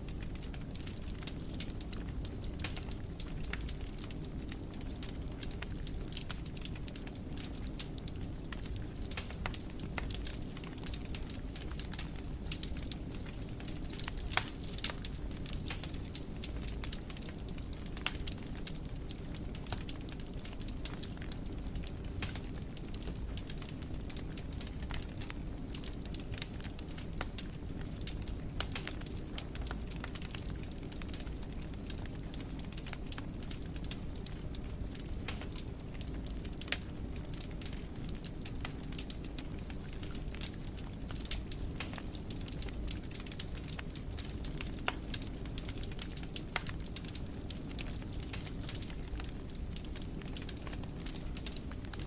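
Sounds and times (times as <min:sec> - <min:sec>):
fire pops and snaps: 0:00.0 - 0:52.0
wood fire crackling: 0:00.0 - 0:52.0.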